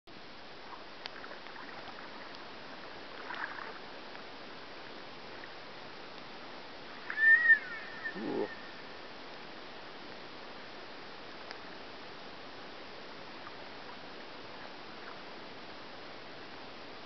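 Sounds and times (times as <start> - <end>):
river water hiss: 0.2 - 17.0.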